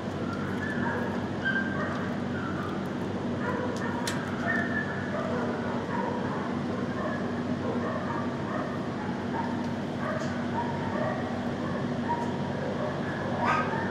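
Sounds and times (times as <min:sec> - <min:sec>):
many dogs barking: 0:00.6 - 0:13.9.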